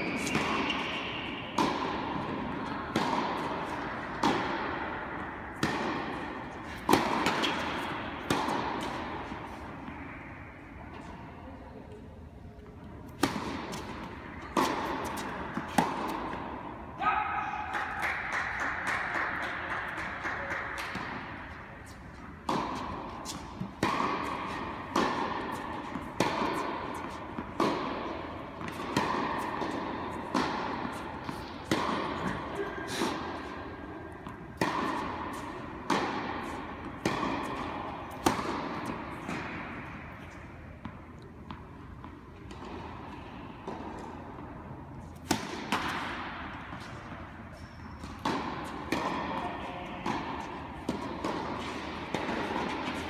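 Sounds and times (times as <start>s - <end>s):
tennis balls struck with rackets: 0.0s - 11.2s, 12.6s - 53.0s
tennis balls bouncing on court: 0.0s - 12.0s, 12.6s - 53.0s.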